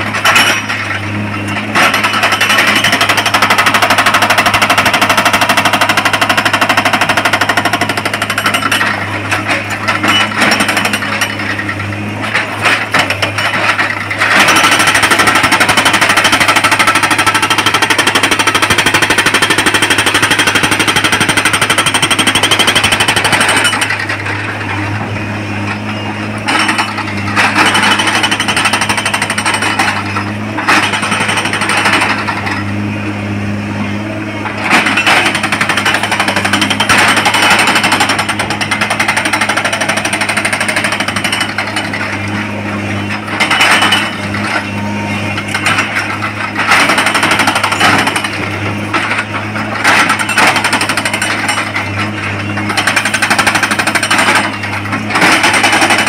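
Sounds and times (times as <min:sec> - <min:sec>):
hydraulic breaker hammering rock: 0:00.0 - 0:32.8, 0:33.9 - 0:56.0
diesel engine hum: 0:00.0 - 0:56.0.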